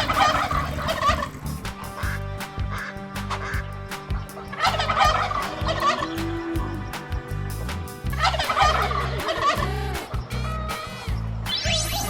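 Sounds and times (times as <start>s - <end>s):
turkey gobbling: 0.0s - 11.7s.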